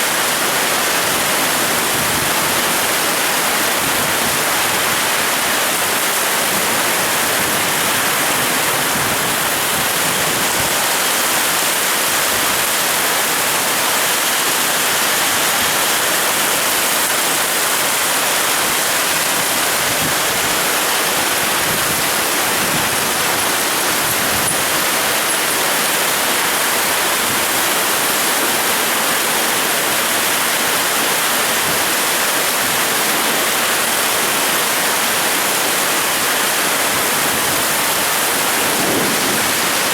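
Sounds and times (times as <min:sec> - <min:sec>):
strong wind: 0:00.0 - 0:29.8, 0:34.2 - 0:39.9
heavy rain: 0:00.0 - 0:39.9.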